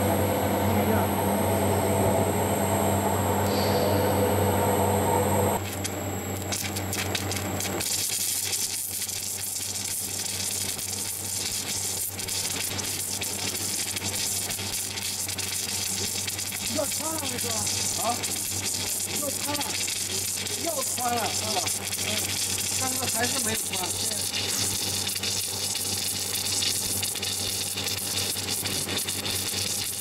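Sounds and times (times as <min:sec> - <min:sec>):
steady hum: 0:00.0 - 0:29.8
welding crackling sizzle: 0:05.6 - 0:30.0.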